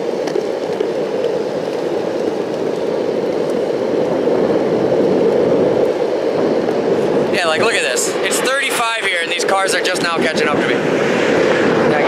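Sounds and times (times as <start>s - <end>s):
skateboard wheels on asphalt: 0.0s - 12.0s
wind rushing: 0.0s - 12.0s.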